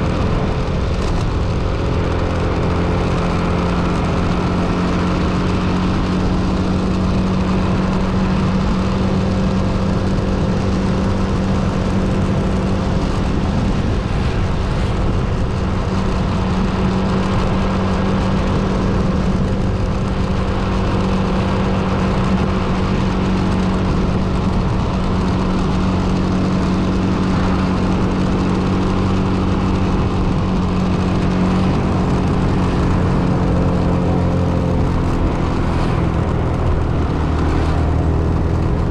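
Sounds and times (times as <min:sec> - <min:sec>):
vehicle engine droning hum: 0:00.0 - 0:38.9.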